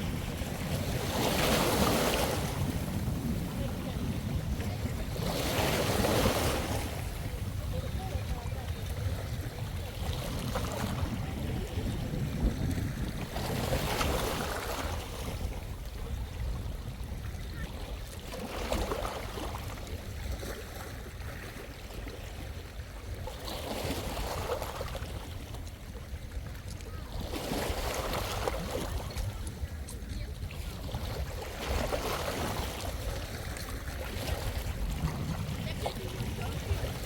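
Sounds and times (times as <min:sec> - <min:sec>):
small waves washing onto shore: 0:00.0 - 0:37.0
wind rumble on microphone: 0:00.0 - 0:37.0.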